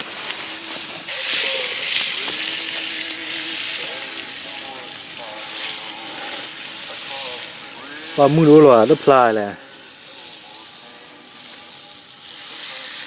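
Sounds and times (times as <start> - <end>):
food sizzling: 0.0 - 13.0.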